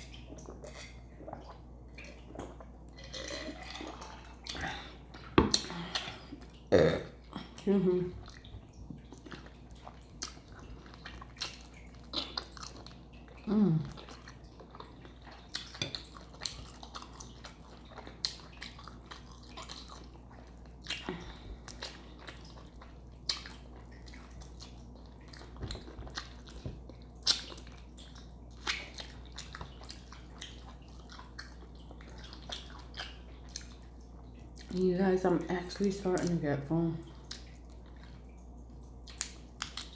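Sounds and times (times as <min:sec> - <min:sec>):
wet chewing and lip-smacking: 0:00.0 - 0:34.8, 0:37.1 - 0:39.9.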